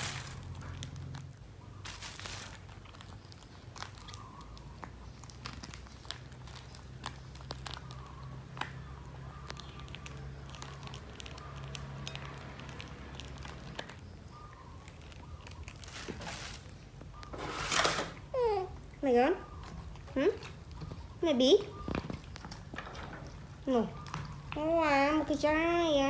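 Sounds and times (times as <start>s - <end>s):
small clicks and crackles: 0.0s - 26.0s.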